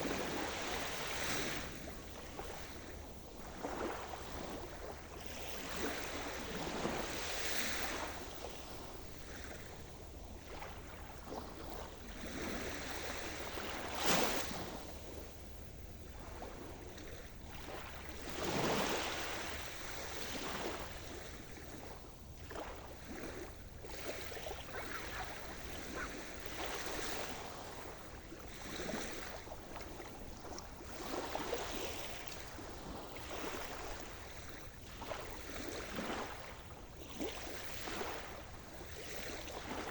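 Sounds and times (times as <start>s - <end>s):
waves breaking and washing in: 0.0s - 39.9s.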